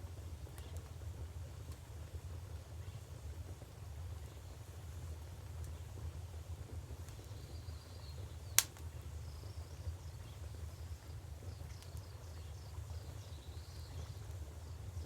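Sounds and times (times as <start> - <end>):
fire popping and crackling: 0.0 - 15.0.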